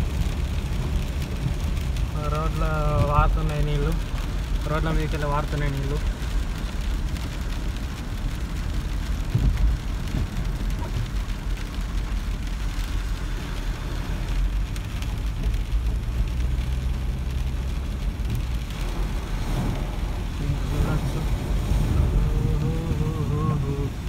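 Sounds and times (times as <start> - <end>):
car driving on wet road: 0.0 - 24.0
rain on car windscreen and roof: 0.0 - 24.0.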